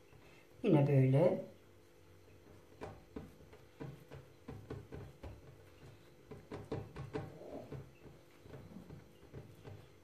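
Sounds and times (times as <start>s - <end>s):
hands kneading dough: 0.0s - 10.0s.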